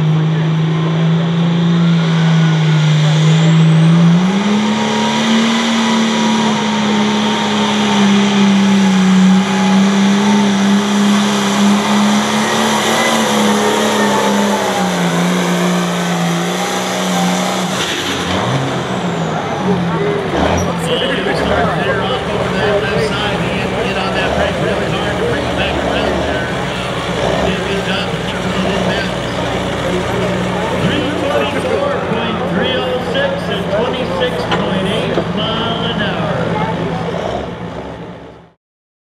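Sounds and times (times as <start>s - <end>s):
diesel engine running under load: 0.0s - 38.6s.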